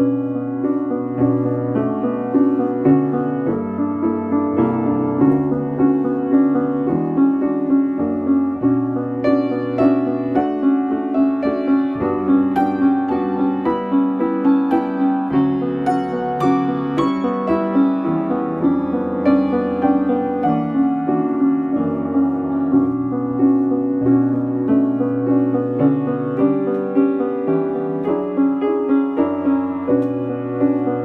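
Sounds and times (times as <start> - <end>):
slow sorrowful piano piece: 0.0 - 31.0.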